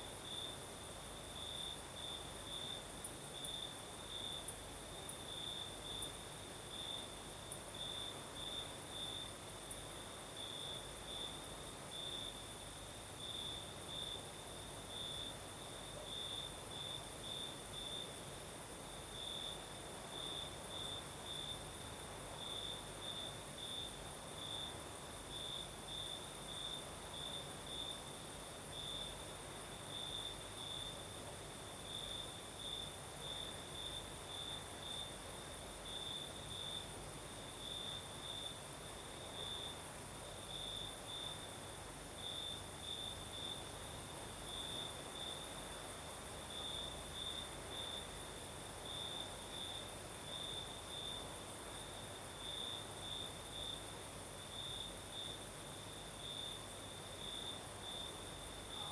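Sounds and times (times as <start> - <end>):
cricket chirping: 0.0 - 58.9.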